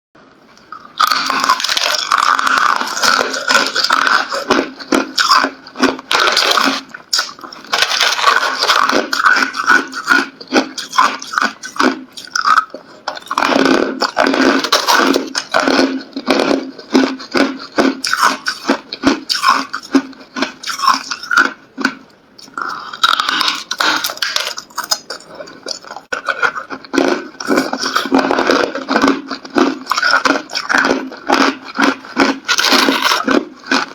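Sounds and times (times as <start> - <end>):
ice being chewed crunching: 0.6 - 33.9.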